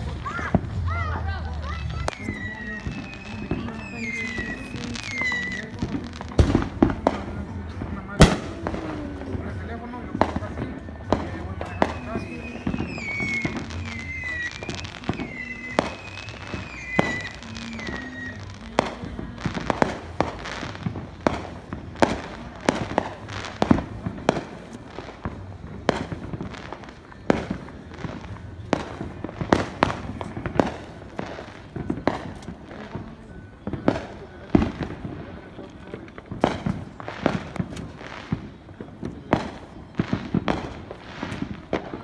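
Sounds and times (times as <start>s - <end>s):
fireworks bangs and cracks: 0.0s - 42.0s.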